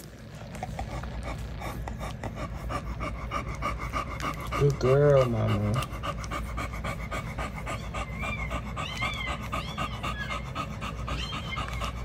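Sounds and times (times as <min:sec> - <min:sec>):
dog panting fast: 0:00.4 - 0:12.0.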